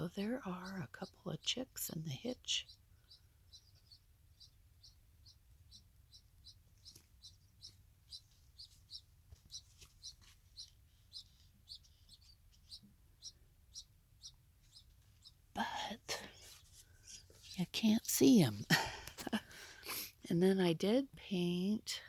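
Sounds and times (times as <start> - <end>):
baby birds cheeping: 0.0 - 21.8.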